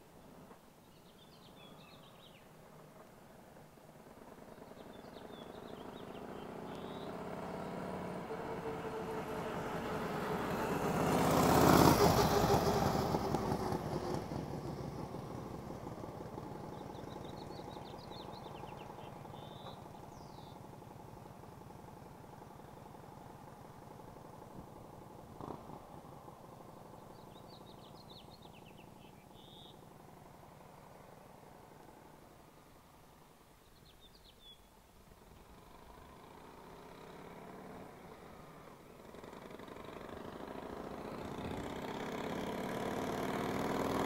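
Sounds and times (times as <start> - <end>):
motorcycle engine passing by: 1.4 - 32.8, 35.2 - 44.0.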